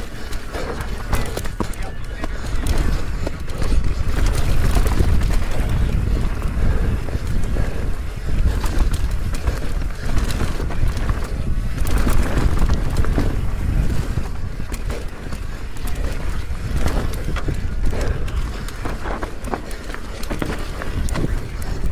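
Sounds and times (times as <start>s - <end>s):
bike clattering over rocks: 0.0s - 21.9s
wind buffeting microphone: 0.0s - 21.9s.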